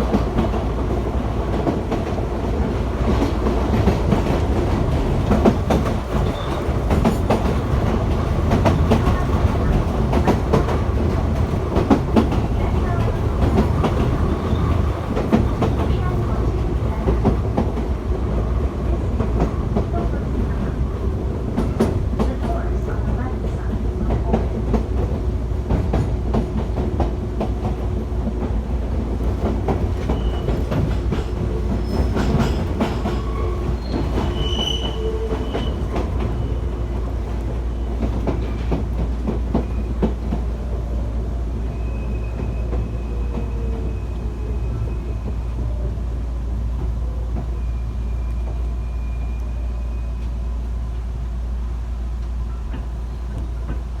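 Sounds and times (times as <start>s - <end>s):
train rumbling inside carriage: 0.0s - 54.0s.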